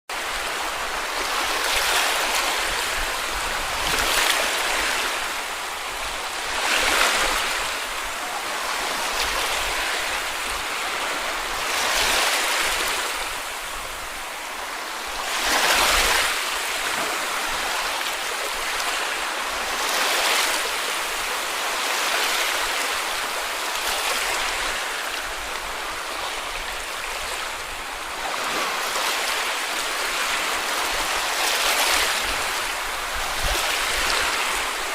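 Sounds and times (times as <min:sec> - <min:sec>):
waves washing onto beach: 0:00.1 - 0:34.9.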